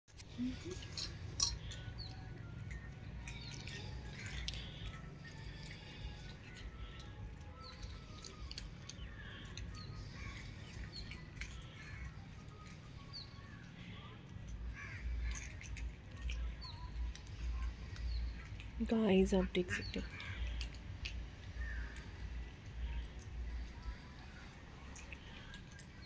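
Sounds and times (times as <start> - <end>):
birds chirping: 0.1 - 26.0
cats eating with crunching: 0.1 - 26.0.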